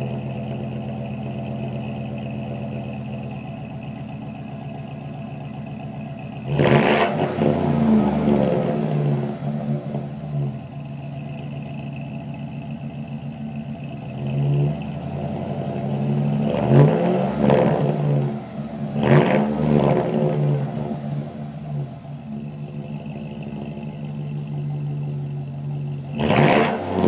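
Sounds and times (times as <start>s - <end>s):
truck engine idling and revving: 0.0s - 27.0s.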